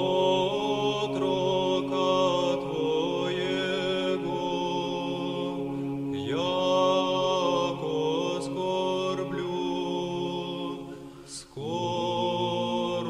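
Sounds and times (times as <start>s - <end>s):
voices chanting long notes: 0.0s - 13.0s.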